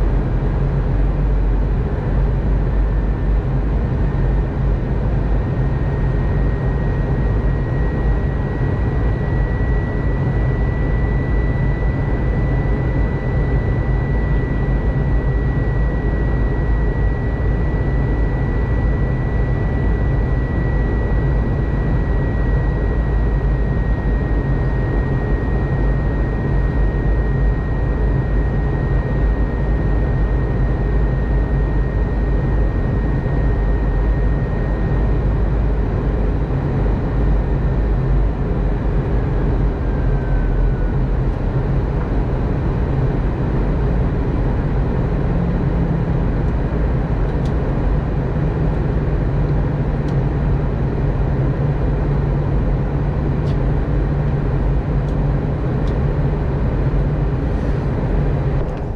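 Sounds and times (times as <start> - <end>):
jet engine drone: 0.0 - 58.9.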